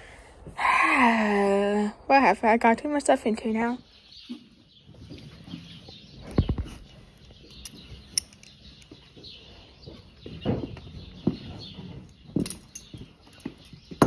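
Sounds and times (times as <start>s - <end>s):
small birds chirping: 2.5s - 14.0s.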